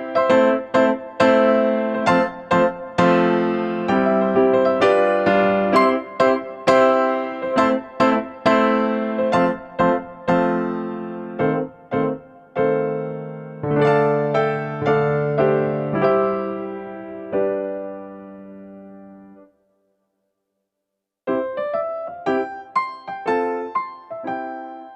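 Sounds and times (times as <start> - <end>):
gentle piano music: 0.0 - 19.6, 21.2 - 24.9.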